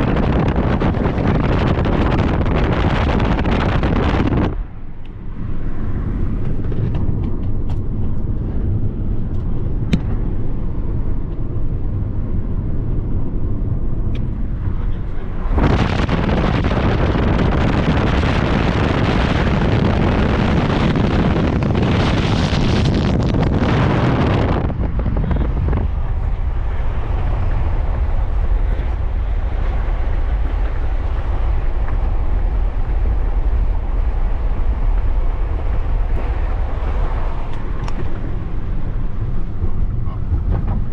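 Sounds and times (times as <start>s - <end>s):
road and wind noise in car: 0.0s - 40.9s.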